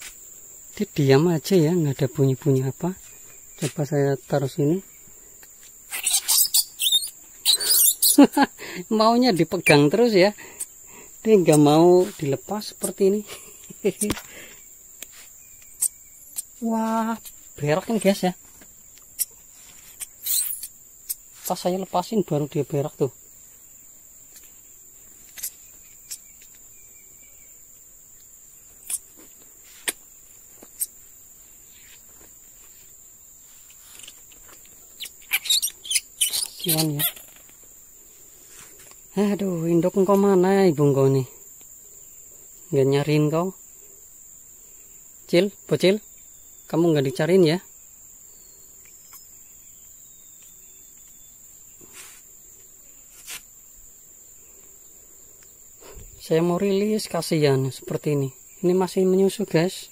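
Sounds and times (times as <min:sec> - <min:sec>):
high-pitched insect buzz: 0:00.0 - 0:59.9.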